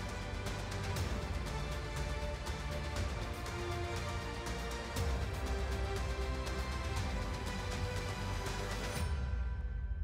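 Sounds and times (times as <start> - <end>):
theme music with heavy bass: 0.0 - 10.0.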